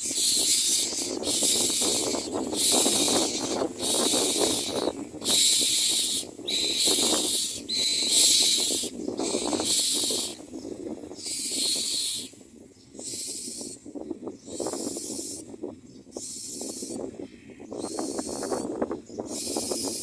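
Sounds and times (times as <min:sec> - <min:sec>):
nestlings hissing begging calls: 0:00.0 - 0:13.8, 0:14.4 - 0:15.5, 0:16.1 - 0:17.0, 0:17.7 - 0:20.0.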